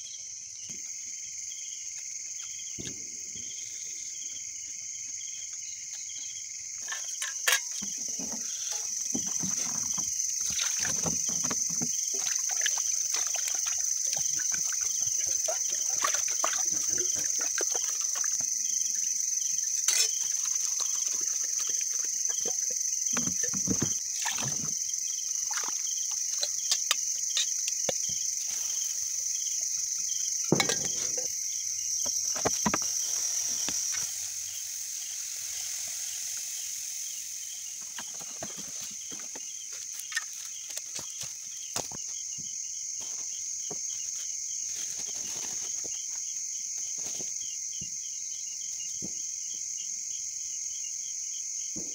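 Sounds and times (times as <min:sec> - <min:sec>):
crickets and night insects chirping: 0:00.0 - 0:51.9.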